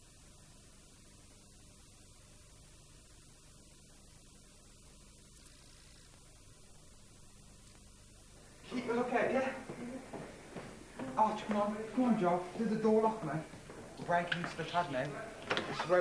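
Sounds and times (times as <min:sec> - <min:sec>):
faint mains hum: 0:00.0 - 0:16.0
tape hiss: 0:00.0 - 0:16.0.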